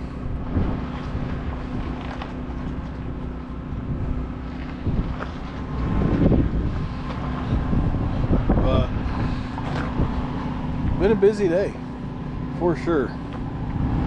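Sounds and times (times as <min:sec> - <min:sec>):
steady mechanical hum: 0:00.0 - 0:14.0
wind buffeting microphone: 0:00.0 - 0:14.0.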